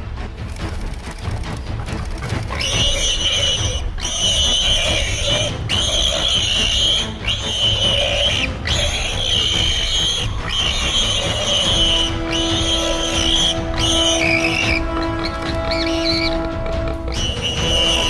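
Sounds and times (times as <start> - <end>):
animal calling harshly: 2.4 - 18.0.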